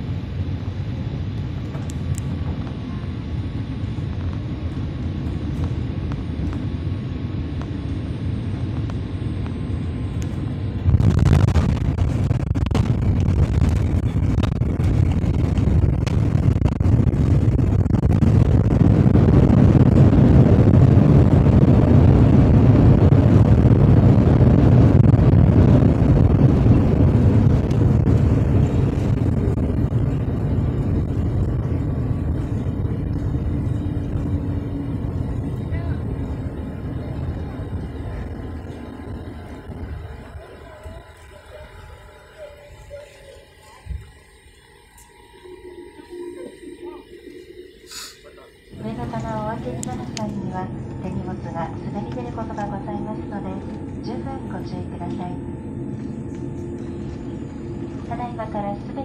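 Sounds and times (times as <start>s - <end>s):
airliner engine and air noise: 0.0s - 59.0s
runway rumble: 0.0s - 59.0s.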